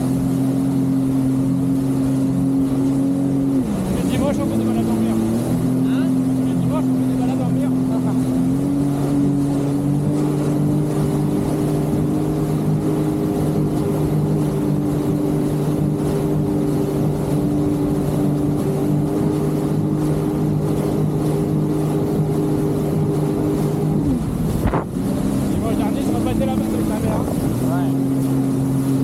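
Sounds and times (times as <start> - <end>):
jet ski engine running: 0.0 - 29.0
water rushing: 0.0 - 29.0
wind: 0.0 - 29.0.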